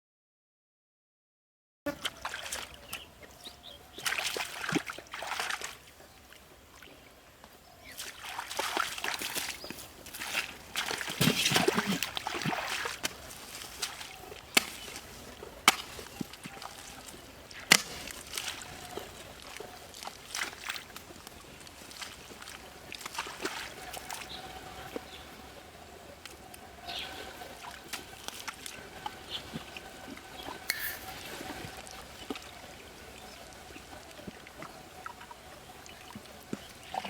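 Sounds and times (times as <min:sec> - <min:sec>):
water sloshing and splashing: 0:02.0 - 0:37.0.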